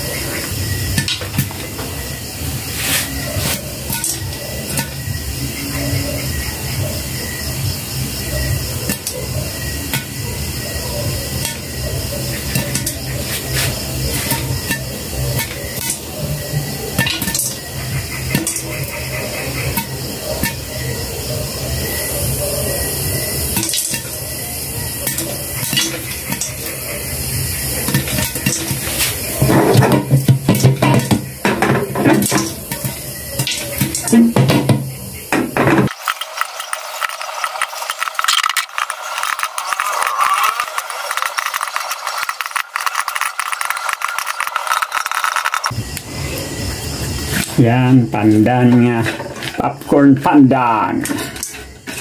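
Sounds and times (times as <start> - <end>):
popcorn popping: 0.0 - 46.1
oil sizzling: 0.0 - 47.6
hot pan hissing: 0.0 - 52.0.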